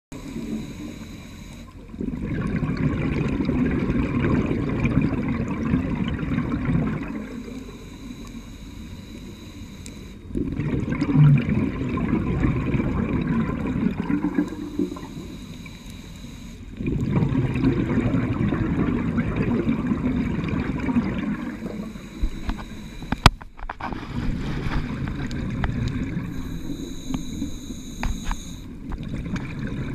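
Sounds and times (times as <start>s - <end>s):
scuba regulator bubbles underwater: 0.1s - 29.9s.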